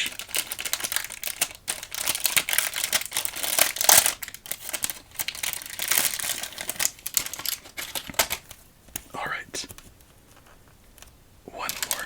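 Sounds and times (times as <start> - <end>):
crinkly plastic packaging handled: 0.0 - 9.1, 9.7 - 12.0.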